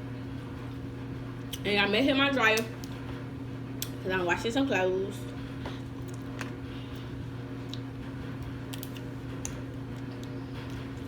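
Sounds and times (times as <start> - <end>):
clothes dryer humming: 0.0 - 11.0.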